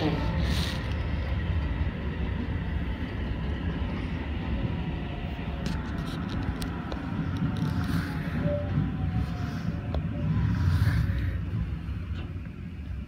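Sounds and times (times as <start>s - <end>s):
train wheels and motors rumbling: 0.0s - 13.0s.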